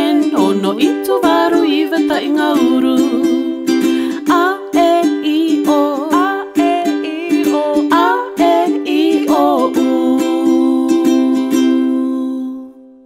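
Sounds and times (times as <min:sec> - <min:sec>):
person singing: 0:00.0 - 0:13.0
ukulele strumming: 0:00.0 - 0:13.0.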